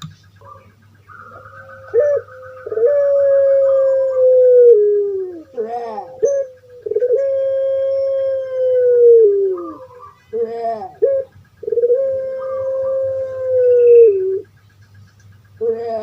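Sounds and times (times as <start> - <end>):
dove cooing: 0.0 - 14.7, 15.4 - 16.0.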